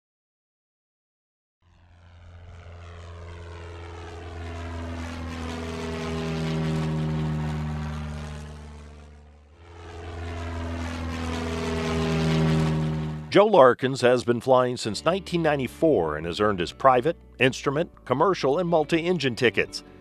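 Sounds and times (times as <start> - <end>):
propeller airplane flying by: 1.6 - 20.0.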